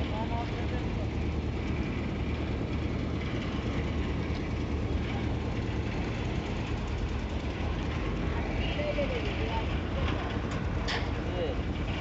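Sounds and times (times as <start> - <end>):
engine running rumble: 0.0 - 12.0.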